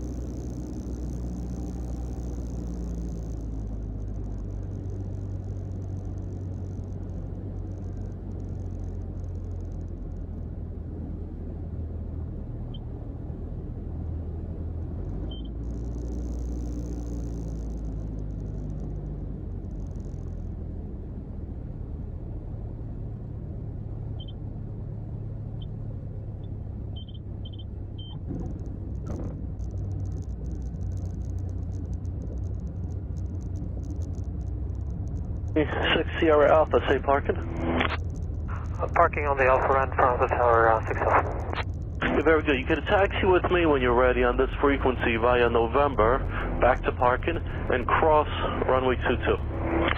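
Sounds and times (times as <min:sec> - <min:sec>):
aircraft engine droning: 0:00.0 - 0:22.3, 0:23.2 - 0:49.9.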